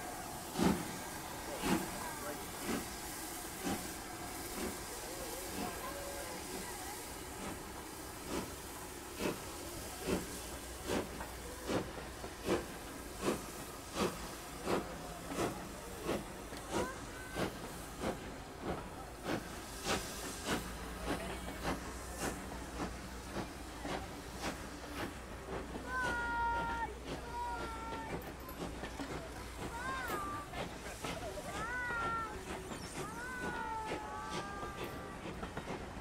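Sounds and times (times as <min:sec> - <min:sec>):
steam hissing: 0:00.0 - 0:36.0
steam locomotive exhaust beats: 0:00.0 - 0:36.0.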